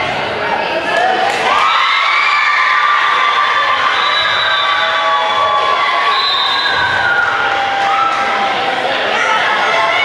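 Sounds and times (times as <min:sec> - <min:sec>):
children cheering in a gym: 0:00.4 - 0:10.0.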